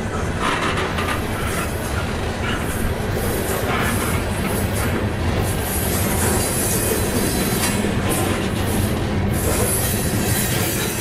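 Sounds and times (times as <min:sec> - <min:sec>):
freight train cars rolling past: 0:00.0 - 0:11.0
steel wheels on rails: 0:00.0 - 0:11.0.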